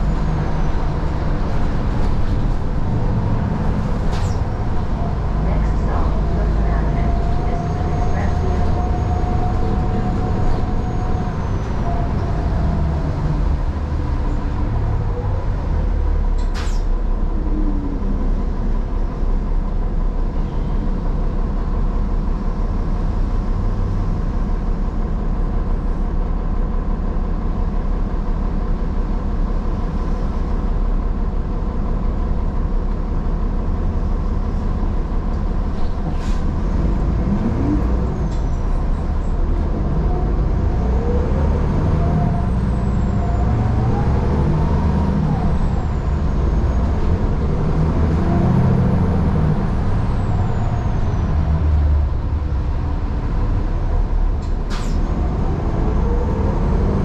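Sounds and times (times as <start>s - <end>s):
bus engine drone: 0.0s - 57.0s
bus engine whine rising: 0.0s - 57.0s
road noise: 0.0s - 57.0s.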